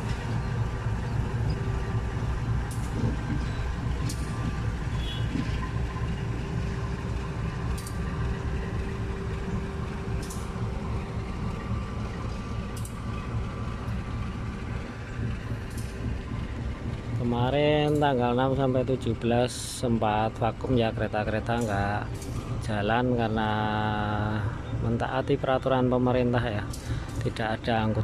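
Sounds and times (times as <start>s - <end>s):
locomotive engine rumble: 0.0s - 28.0s
steady hum: 0.0s - 28.0s.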